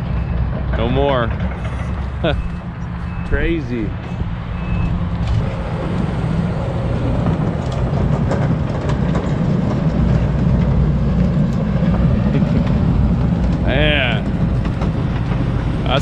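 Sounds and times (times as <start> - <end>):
heavy machinery diesel rumble: 0.0 - 16.0.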